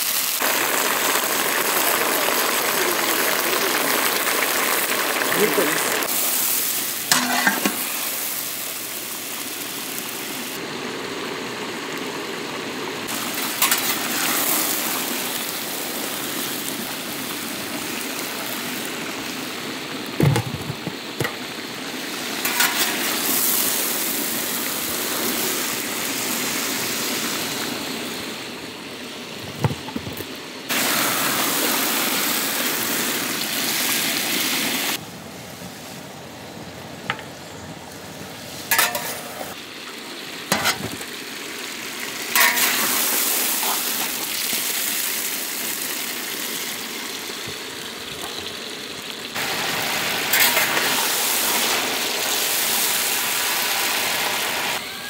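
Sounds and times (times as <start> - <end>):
vegetables sizzling in oil: 0.0 - 35.0, 35.6 - 55.0.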